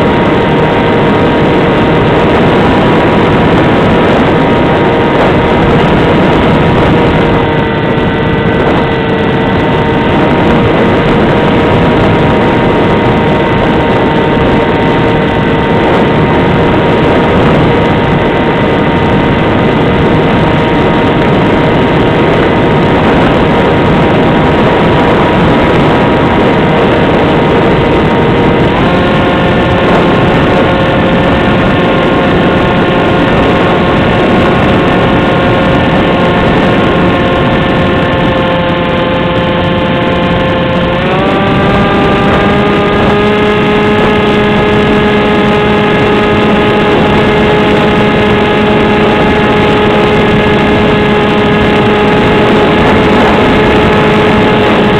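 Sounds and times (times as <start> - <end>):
electric motor and propeller whine: 0.0 - 54.9
rush of noise: 0.0 - 54.9.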